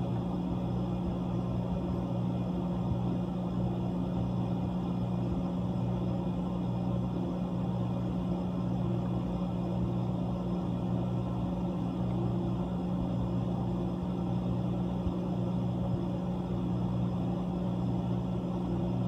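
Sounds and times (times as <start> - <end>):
compressor humming: 0.0 - 19.0.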